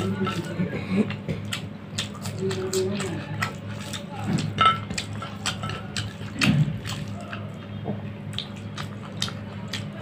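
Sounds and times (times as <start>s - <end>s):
chewing: 0.0s - 10.0s
fingers mixing rice with curry: 0.0s - 10.0s
steady low hum: 0.0s - 10.0s.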